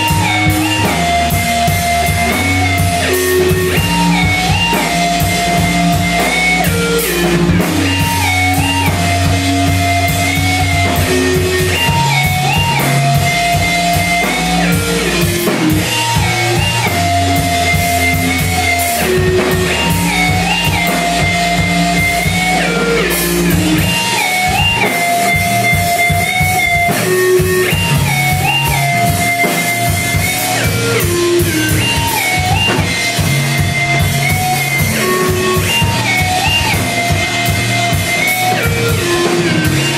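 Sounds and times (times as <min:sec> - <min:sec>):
drum kit playing: 0:00.0 - 0:39.9
melodic instrumental riff: 0:00.0 - 0:39.9
stepping bass line: 0:00.0 - 0:39.9.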